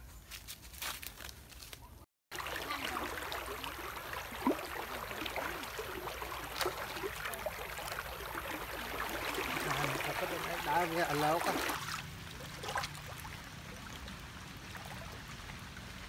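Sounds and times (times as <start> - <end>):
river water flowing and sloshing: 2.3 - 16.0.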